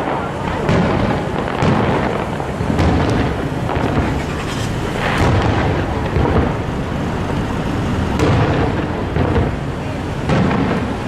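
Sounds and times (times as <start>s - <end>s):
firework shells booming: 0.0s - 11.0s
rumble of echoing explosions: 0.0s - 11.0s.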